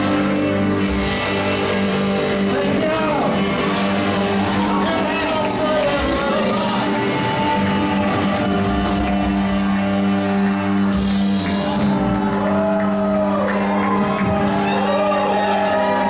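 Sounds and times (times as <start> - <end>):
crowd whooping and shouting: 0.0 - 16.0.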